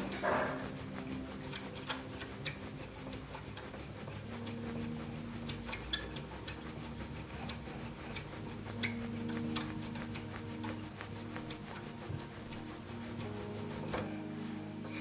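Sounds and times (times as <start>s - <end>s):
metal-on-metal rubbing: 0.0s - 15.0s
sustained background tones: 0.0s - 15.0s.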